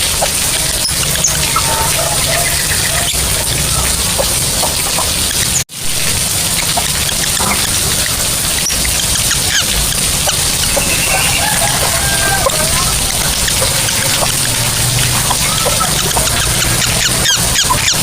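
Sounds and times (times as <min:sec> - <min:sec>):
lovebirds chirping: 0:00.0 - 0:05.7, 0:06.5 - 0:18.0.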